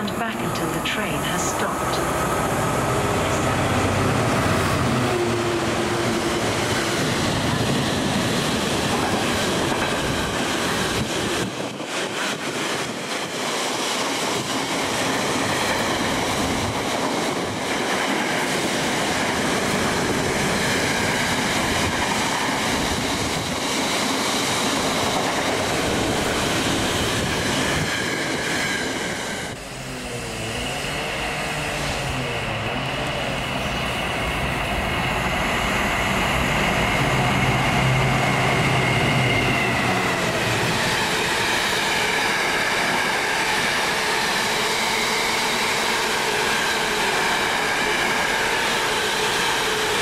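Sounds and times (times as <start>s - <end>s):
train wheels rushing on rail: 0.0s - 50.0s.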